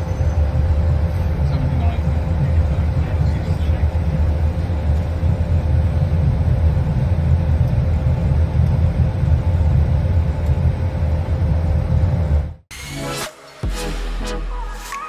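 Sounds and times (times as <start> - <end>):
aircraft engine rumble: 0.0 - 12.7.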